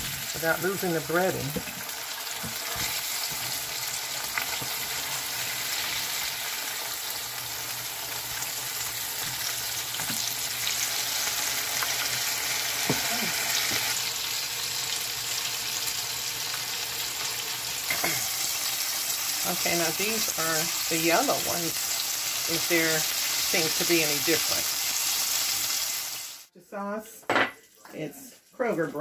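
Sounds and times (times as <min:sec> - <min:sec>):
food sizzling in hot oil: 0:00.0 - 0:26.5.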